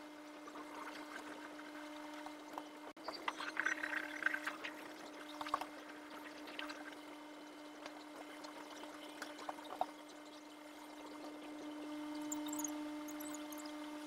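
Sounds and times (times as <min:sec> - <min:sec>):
low hum: 0:00.0 - 0:14.0
small clicks and crackles: 0:00.2 - 0:13.9.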